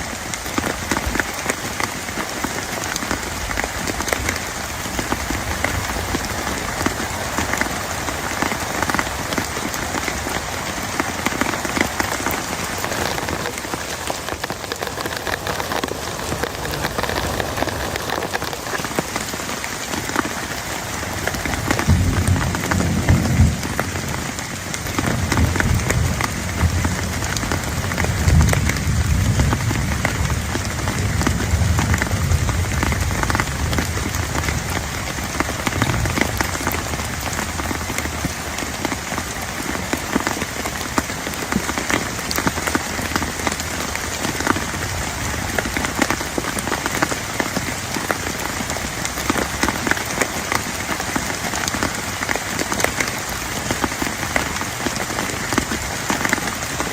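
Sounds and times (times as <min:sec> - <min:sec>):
heavy rain on a surface: 0:00.0 - 0:56.9.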